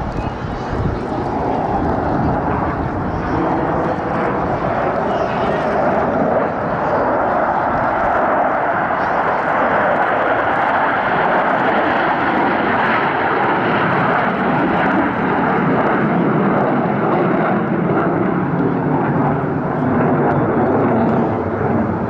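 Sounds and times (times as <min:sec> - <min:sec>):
jets flying past: 0:00.0 - 0:22.0.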